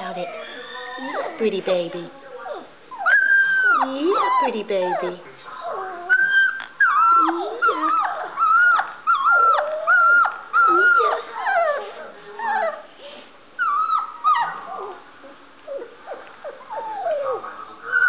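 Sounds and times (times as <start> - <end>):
puppy whining: 0.0 - 18.0.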